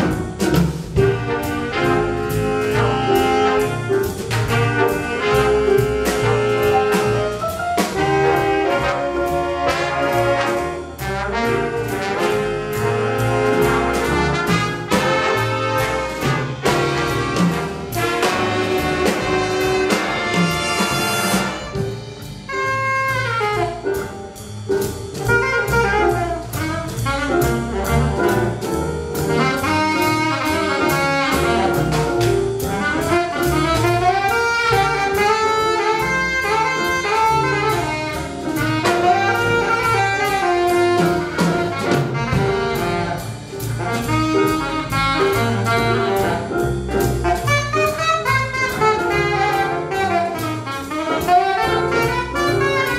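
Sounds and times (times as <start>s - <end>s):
bass: 0.0s - 52.9s
drum kit with cymbals: 0.0s - 52.9s
horn section chords: 0.0s - 52.9s
saxophone melody: 1.0s - 24.1s, 25.3s - 28.6s, 29.2s - 52.9s.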